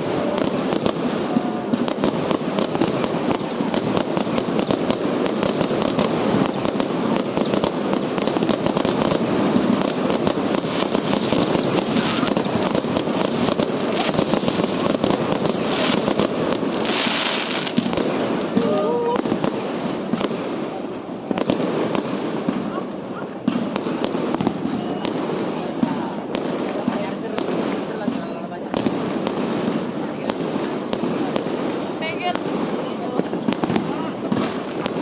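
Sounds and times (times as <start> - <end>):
fireworks cracking and popping: 0.0 - 35.0.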